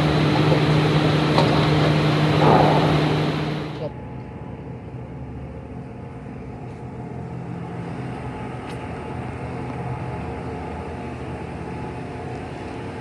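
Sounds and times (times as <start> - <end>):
forklift engine humming: 0.0 - 4.0, 4.6 - 13.0.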